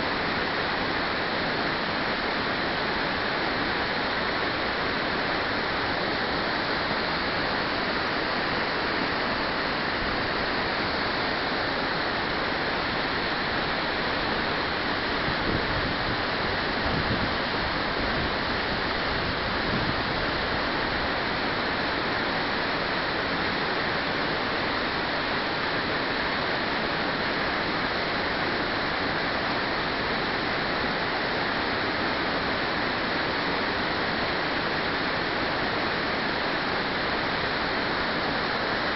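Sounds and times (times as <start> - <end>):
river rapids: 0.0 - 38.9.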